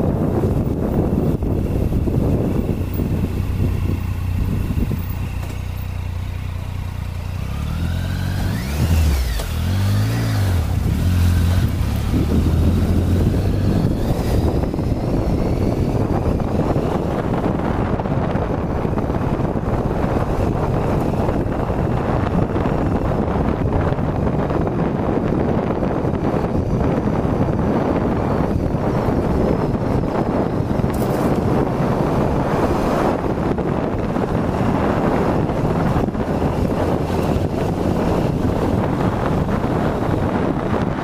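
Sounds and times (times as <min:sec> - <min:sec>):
motorcycle engine revving: 0:00.0 - 0:41.0
wind rushing over microphone: 0:00.0 - 0:41.0.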